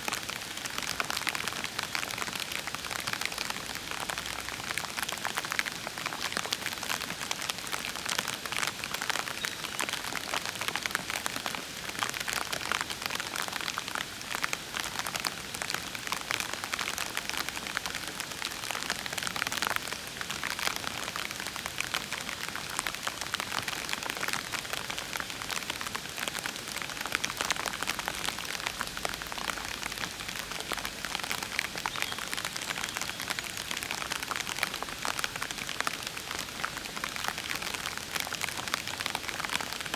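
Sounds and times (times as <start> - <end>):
gentle rain on leaves and puddles: 0.0 - 39.9.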